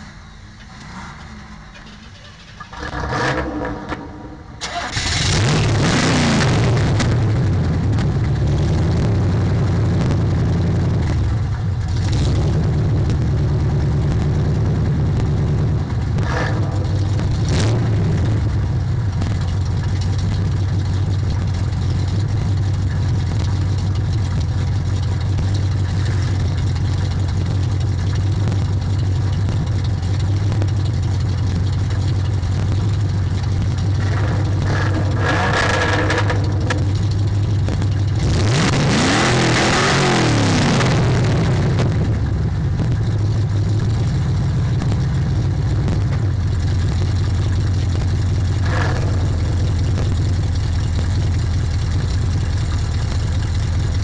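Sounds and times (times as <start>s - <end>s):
car engine starting and idling: 0.0s - 54.0s.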